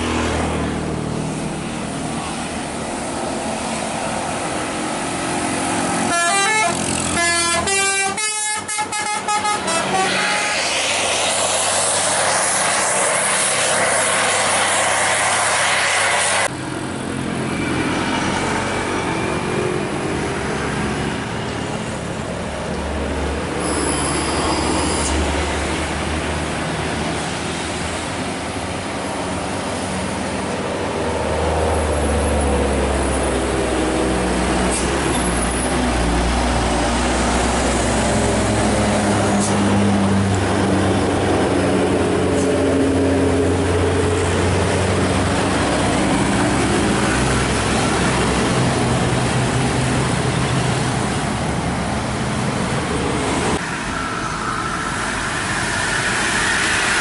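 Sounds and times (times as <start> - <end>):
diesel vehicles driving past: 0.0 - 57.0
steady road noise: 0.0 - 57.0.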